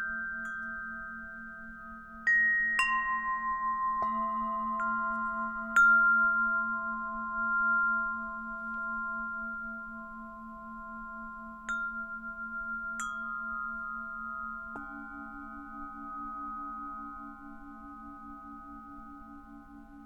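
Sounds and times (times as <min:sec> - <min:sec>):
wind chime strikes: 0:00.0 - 0:19.9
singing bowls ringing: 0:00.0 - 0:20.0.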